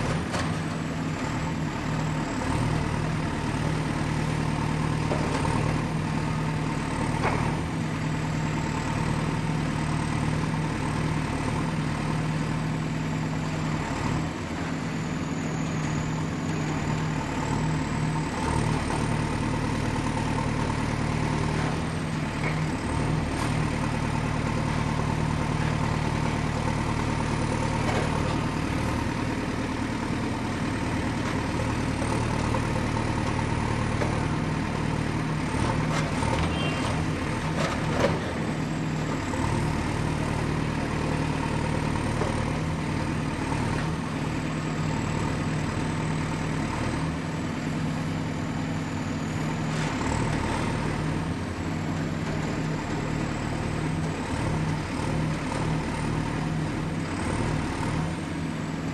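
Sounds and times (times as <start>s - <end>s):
diesel engine humming: 0.0s - 58.9s.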